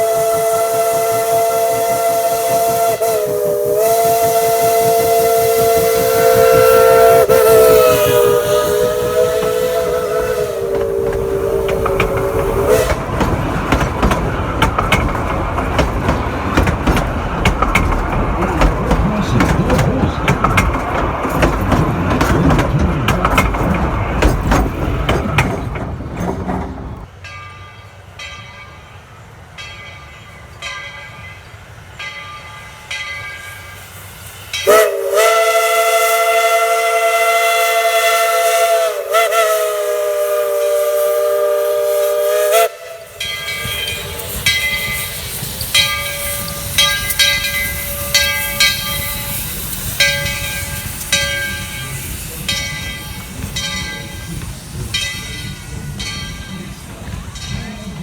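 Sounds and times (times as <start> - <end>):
steam locomotive chime whistle: 0.0 - 58.0.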